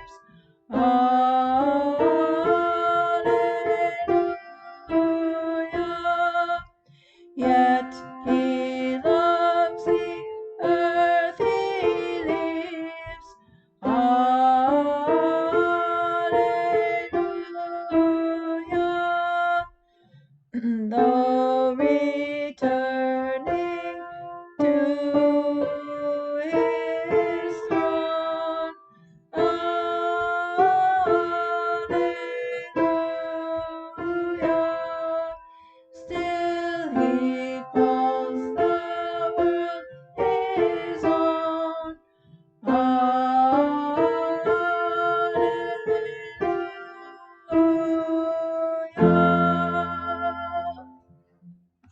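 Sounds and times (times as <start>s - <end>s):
hymn music in parts: 0.0s - 6.7s, 7.4s - 13.2s, 20.7s - 28.8s, 29.4s - 42.0s, 42.6s - 51.0s.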